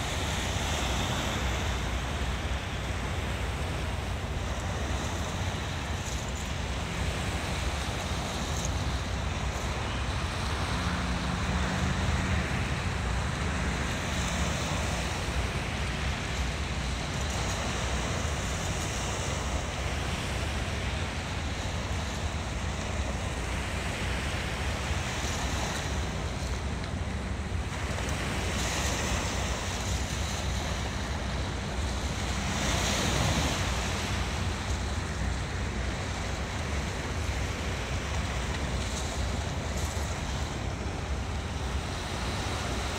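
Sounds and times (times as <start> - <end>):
waves breaking on rocks: 0.0 - 42.9.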